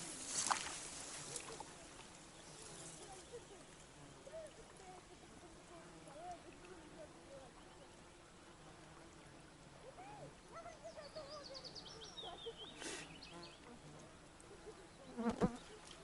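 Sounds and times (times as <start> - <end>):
faint birdsong: 1.3 - 16.0.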